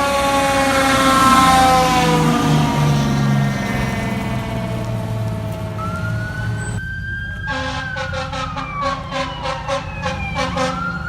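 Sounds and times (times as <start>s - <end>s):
air horn blast: 0.0s - 6.6s, 7.4s - 11.0s
rapidly pulsing siren: 0.0s - 11.0s
wailing siren: 0.0s - 11.0s.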